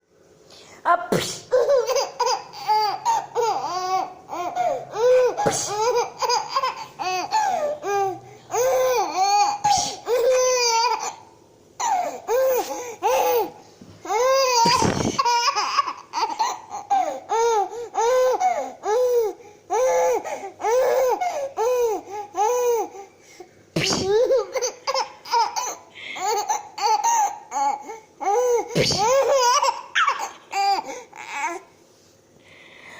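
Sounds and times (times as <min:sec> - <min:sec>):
baby laughing: 0:01.5 - 0:23.0, 0:23.8 - 0:31.6.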